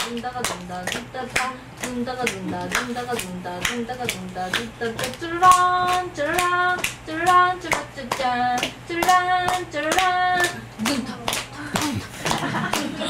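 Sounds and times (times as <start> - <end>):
audience clapping in rhythm: 0.0 - 13.0.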